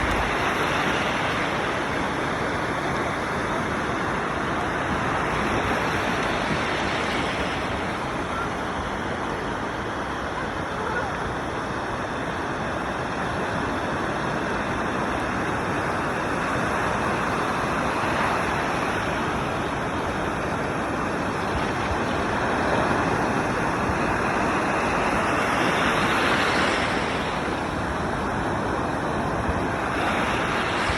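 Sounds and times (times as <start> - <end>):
ocean waves breaking: 0.0 - 30.9.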